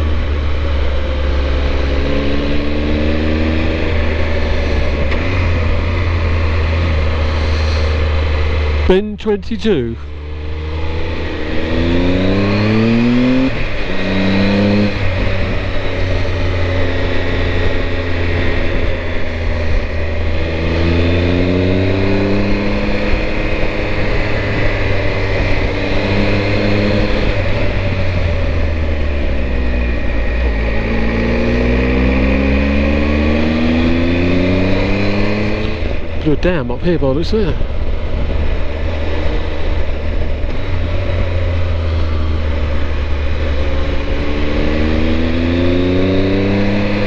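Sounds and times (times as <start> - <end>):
motorcycle engine accelerating: 0.0 - 47.0
wind and road noise: 0.0 - 47.0.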